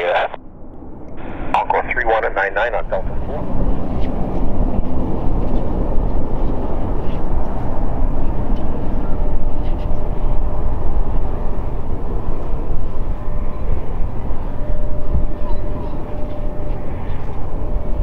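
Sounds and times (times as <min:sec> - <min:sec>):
turboprop engines rumbling: 0:00.0 - 0:18.0.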